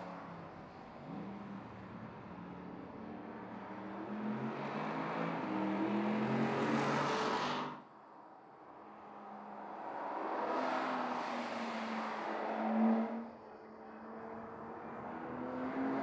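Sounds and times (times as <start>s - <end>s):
car engine running on track: 0.0s - 7.8s, 8.9s - 16.0s.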